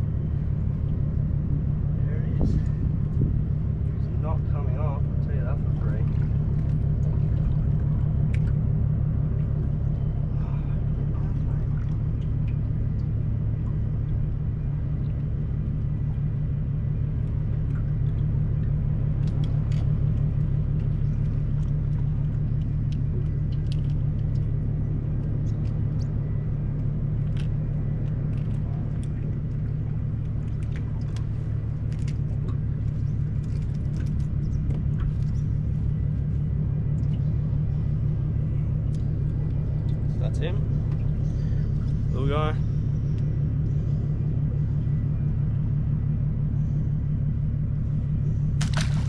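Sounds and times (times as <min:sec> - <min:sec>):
outboard motor idling: 0:00.0 - 0:49.0.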